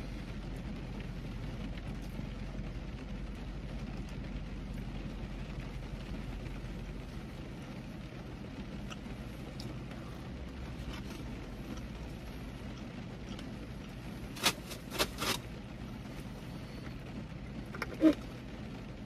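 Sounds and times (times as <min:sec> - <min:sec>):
car cabin low rumble: 0:00.0 - 0:19.0
sharp crackles and clicks: 0:00.2 - 0:19.0.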